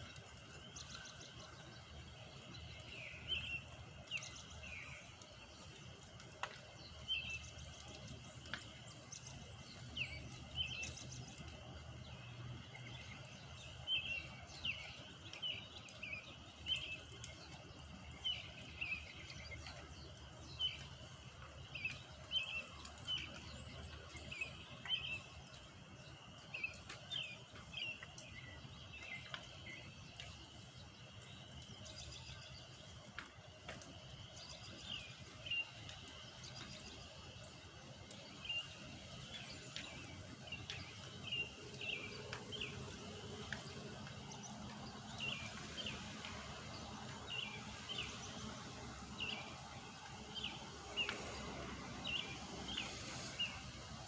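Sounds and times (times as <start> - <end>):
birds chirping: 0.0 - 53.7.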